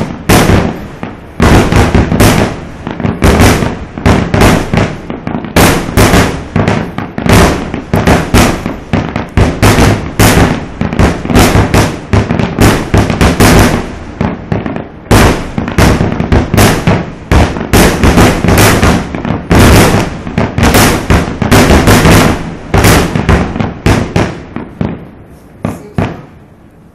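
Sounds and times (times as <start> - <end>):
fireworks shells bursting: 0.0 - 26.5.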